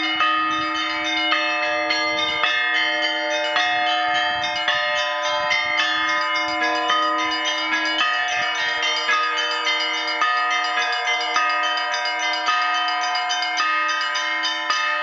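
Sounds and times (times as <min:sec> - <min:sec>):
small bells struck rapidly: 0:00.0 - 0:15.0.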